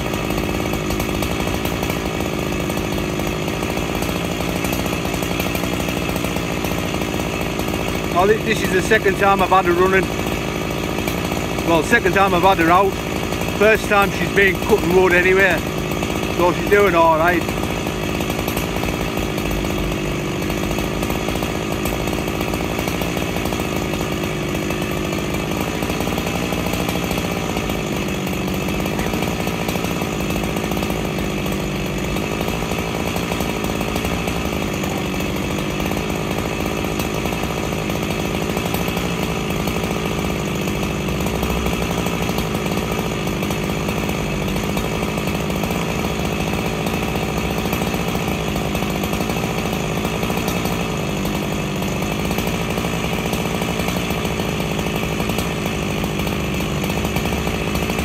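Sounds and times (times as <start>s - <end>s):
chainsaw engine idling: 0.0s - 58.0s.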